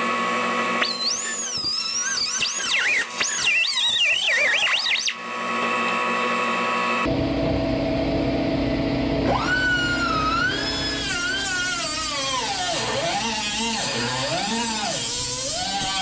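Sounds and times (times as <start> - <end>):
angle grinder cutting steel: 0.0 - 7.1, 9.2 - 16.0.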